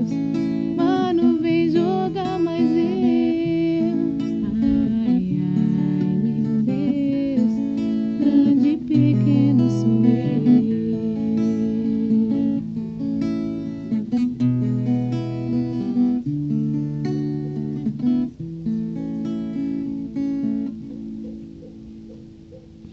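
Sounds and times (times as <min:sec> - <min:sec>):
acoustic guitar strumming chords: 0:00.0 - 0:22.9.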